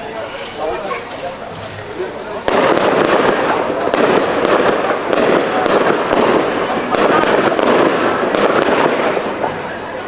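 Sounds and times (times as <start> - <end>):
fireworks bangs and crackles: 1.1 - 10.0.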